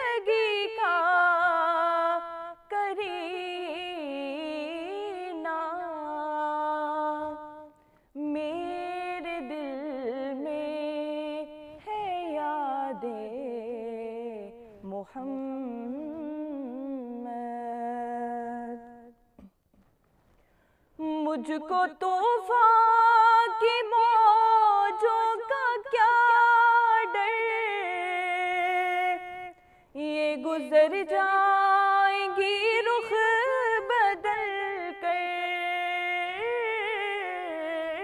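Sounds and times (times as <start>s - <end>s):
woman singing unaccompanied: 0.0s - 19.2s, 21.0s - 38.0s.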